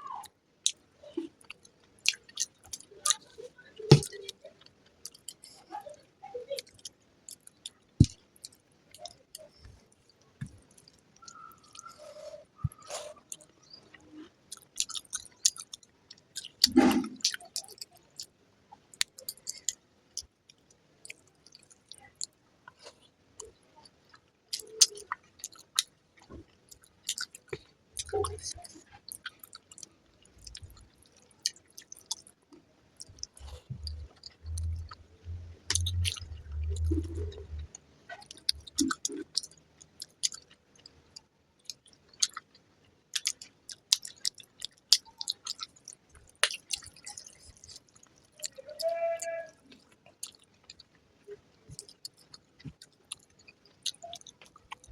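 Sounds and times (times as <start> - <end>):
close chewing and mouth clicks: 0.2 - 54.9.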